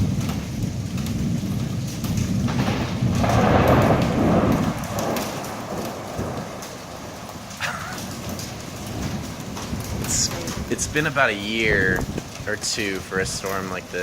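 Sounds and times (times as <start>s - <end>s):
heavy rain: 0.0s - 14.0s
rolling thunder: 0.0s - 14.0s.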